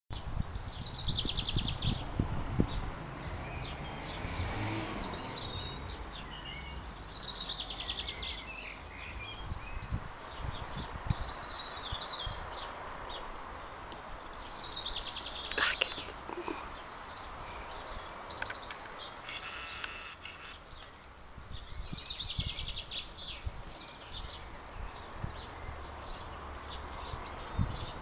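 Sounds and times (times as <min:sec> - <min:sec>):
birds twittering: 0:00.1 - 0:28.0.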